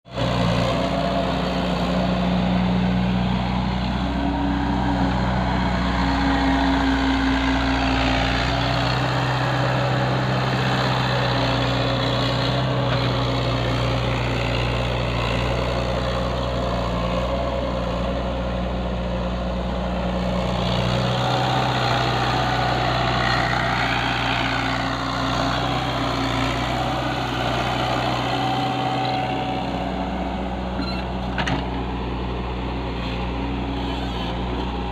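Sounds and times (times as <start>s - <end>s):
excavator engine running: 0.1s - 34.9s.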